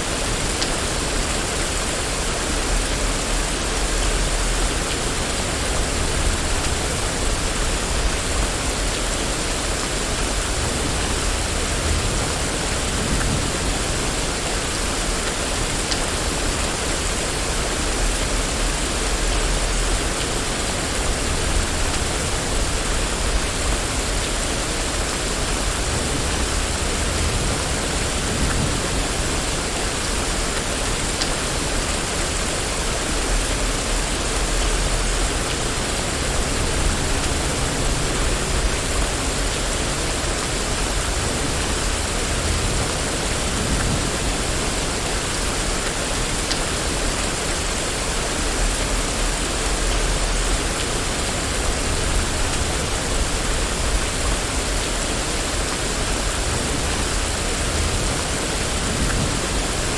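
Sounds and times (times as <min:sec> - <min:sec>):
rain hissing on street: 0:00.0 - 0:59.9.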